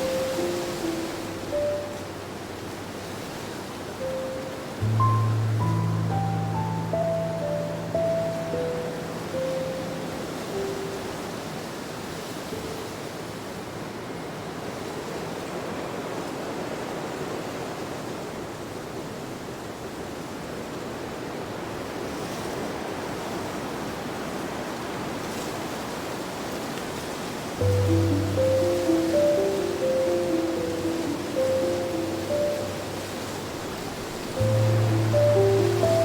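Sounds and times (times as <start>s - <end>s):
rushing nature ambience: 0.0s - 36.0s.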